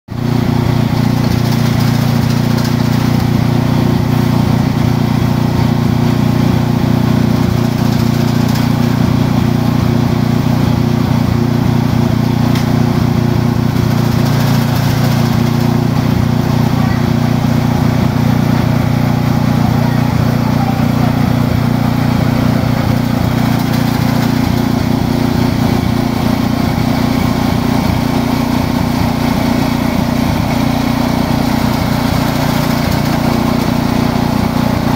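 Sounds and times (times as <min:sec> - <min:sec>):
large drum fan: 0:00.1 - 0:34.9
leaf chopping machine humming: 0:00.1 - 0:34.9.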